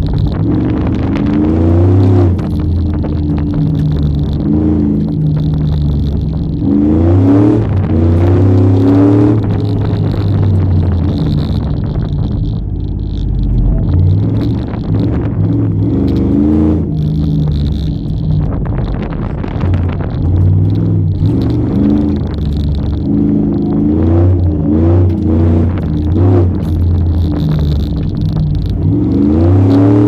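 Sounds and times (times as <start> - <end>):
pickup engine revving: 0.0 - 30.0.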